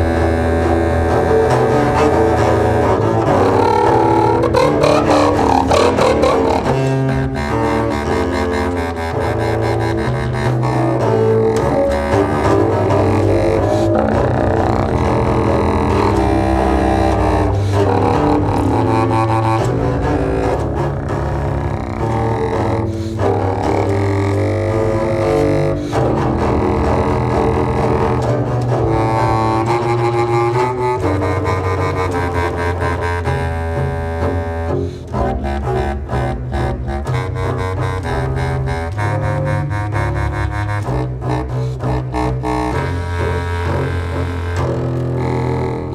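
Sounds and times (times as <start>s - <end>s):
clarinet and double bass notes: 0.0s - 45.9s.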